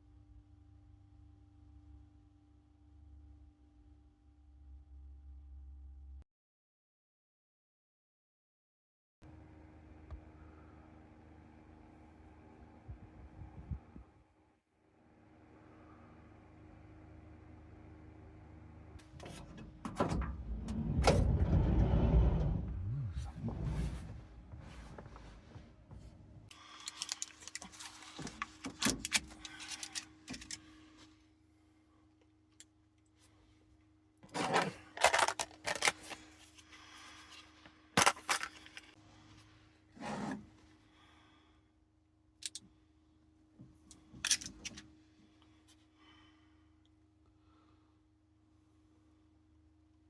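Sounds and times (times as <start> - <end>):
faint steady hum: 9.3 - 50.0.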